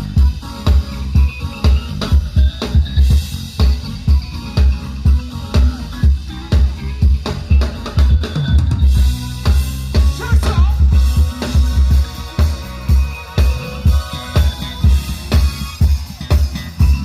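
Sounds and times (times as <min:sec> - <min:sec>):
bass line: 0:00.0 - 0:17.0.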